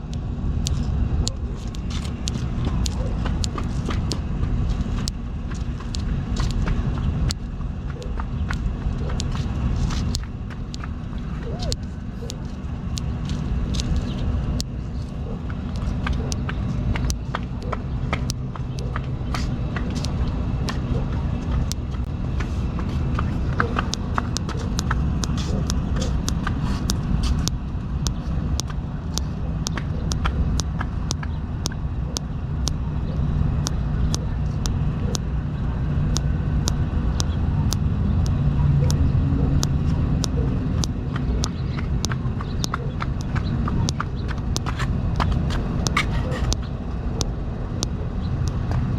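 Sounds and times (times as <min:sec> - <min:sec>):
sharp clicks: 0:00.0 - 0:35.4, 0:36.1 - 0:48.9
steady low rumble: 0:00.0 - 0:48.9.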